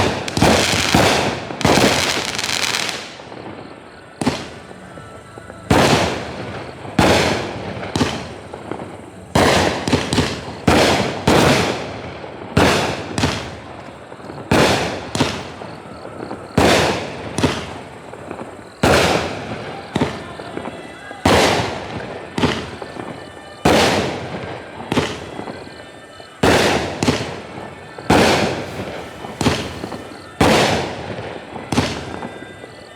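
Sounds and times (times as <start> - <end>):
firework bangs: 0.0 - 32.9.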